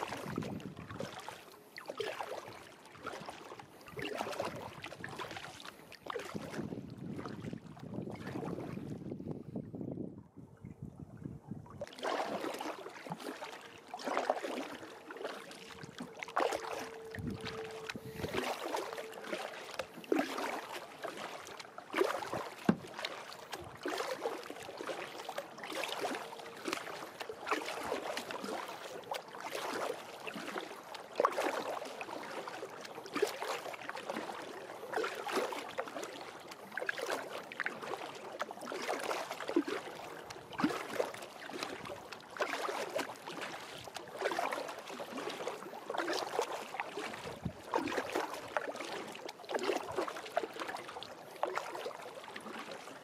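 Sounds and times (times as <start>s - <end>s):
waves lapping against hull: 0.0s - 53.0s.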